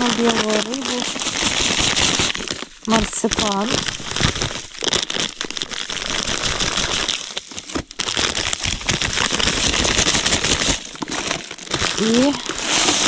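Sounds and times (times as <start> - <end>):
dry bait pouring into bucket: 0.0 - 13.0
plastic packets crinkling: 0.0 - 13.0.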